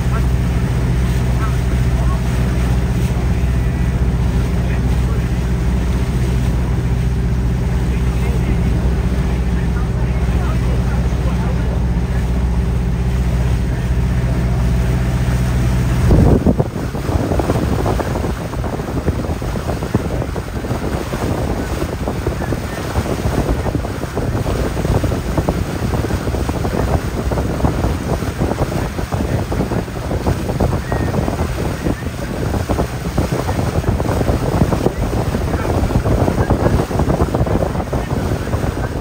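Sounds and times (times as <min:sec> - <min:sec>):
boat engine droning: 0:00.0 - 0:39.0
rushing sea water: 0:00.0 - 0:39.0
wind buffeting microphone: 0:00.0 - 0:39.0.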